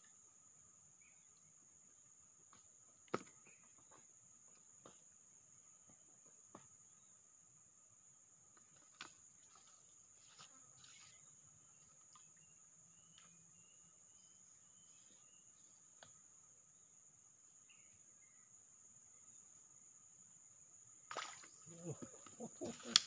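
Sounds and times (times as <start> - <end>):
forest insects droning: 0.0 - 23.0.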